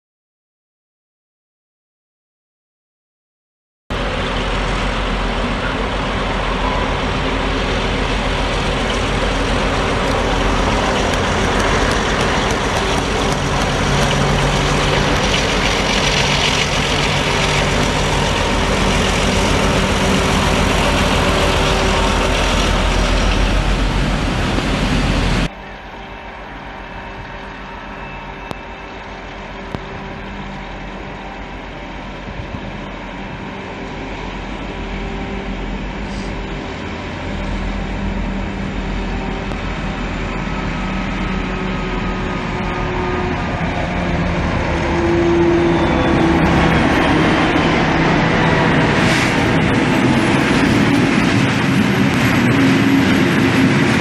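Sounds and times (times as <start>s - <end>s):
diesel engine drone: 3.9s - 54.0s
train approaching: 3.9s - 54.0s.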